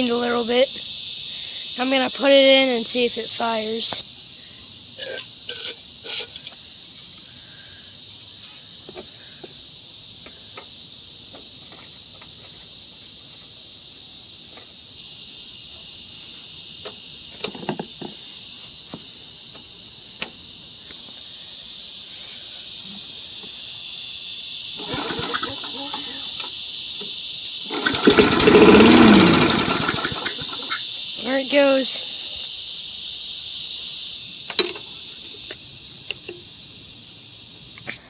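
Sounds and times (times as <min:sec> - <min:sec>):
crickets chirring: 0:00.0 - 0:38.0.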